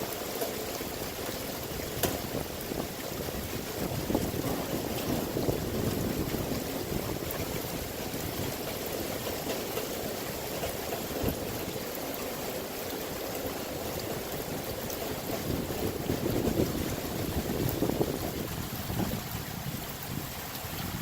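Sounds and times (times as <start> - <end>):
heavy rain pouring: 0.0 - 21.0
runoff water rushing: 0.0 - 21.0.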